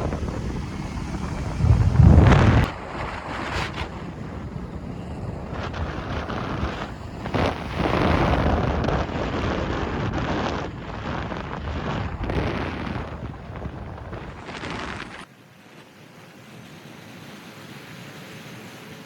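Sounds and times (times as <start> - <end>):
road noise: 0.0 - 15.3
wind rushing over microphone: 0.0 - 15.3.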